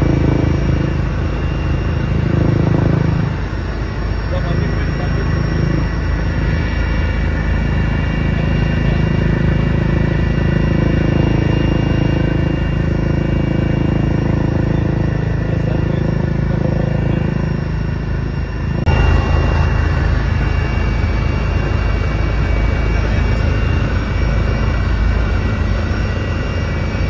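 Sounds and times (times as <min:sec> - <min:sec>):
helicopter engine and rotor drone: 0:00.0 - 0:27.0
high whining tones: 0:00.0 - 0:27.0.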